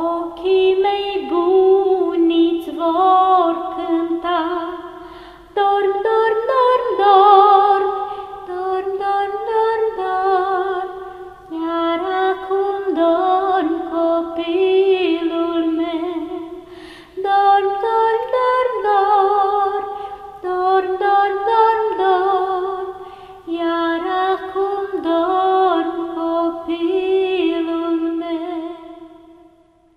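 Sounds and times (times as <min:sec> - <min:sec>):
woman singing a lullaby: 0:00.0 - 0:29.3.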